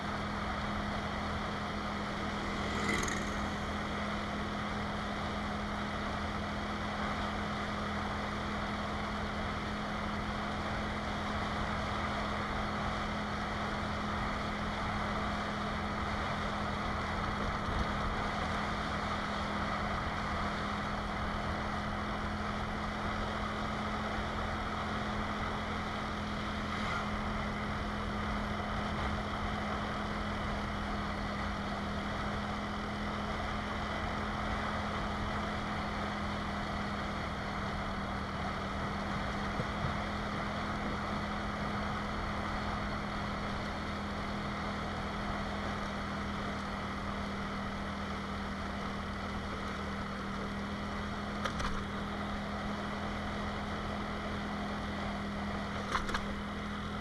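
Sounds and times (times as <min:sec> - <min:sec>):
motorcycle engine running: 0:00.0 - 0:57.0
road noise: 0:00.0 - 0:57.0.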